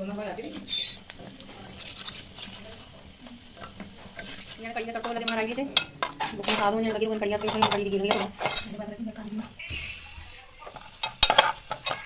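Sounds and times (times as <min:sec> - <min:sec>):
food sizzling in oil: 0:00.0 - 0:12.0
spatula scraping a pan: 0:00.4 - 0:09.9, 0:10.6 - 0:12.0.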